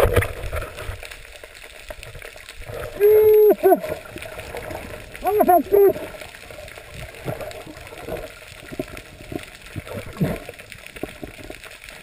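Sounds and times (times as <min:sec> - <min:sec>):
underwater clicking: 0:00.0 - 0:12.0
underwater water noise: 0:00.0 - 0:12.0.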